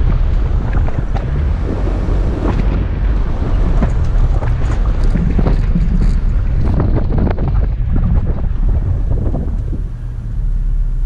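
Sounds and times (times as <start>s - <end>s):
car engine and tyres rumbling: 0.0s - 11.0s
wind buffeting microphone: 0.0s - 11.0s.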